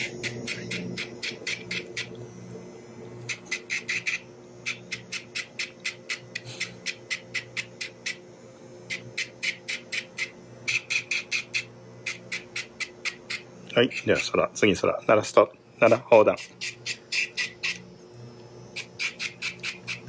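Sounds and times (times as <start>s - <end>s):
pet nail grinder humming: 0.0s - 20.0s.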